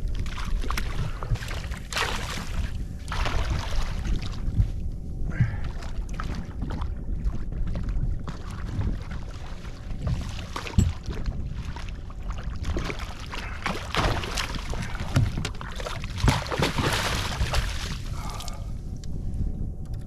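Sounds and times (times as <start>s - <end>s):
water slapping boat hull: 0.0s - 19.1s
wind on microphone: 0.0s - 20.0s.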